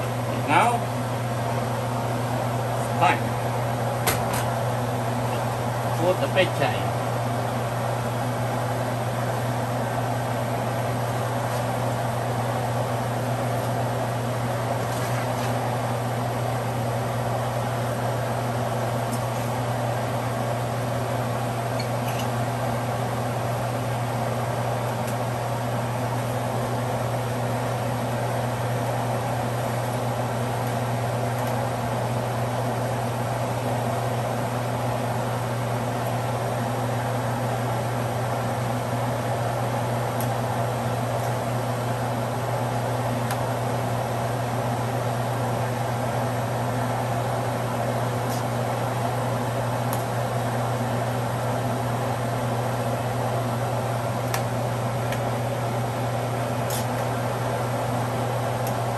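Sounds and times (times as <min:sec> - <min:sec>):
fan humming and whooshing: 0:00.0 - 0:58.9.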